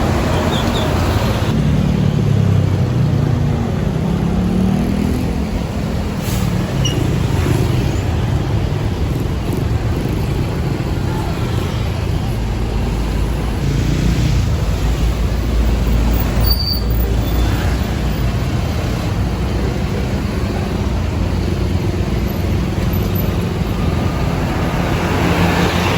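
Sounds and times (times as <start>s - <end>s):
diesel bus engine rumbling: 0.0s - 25.9s.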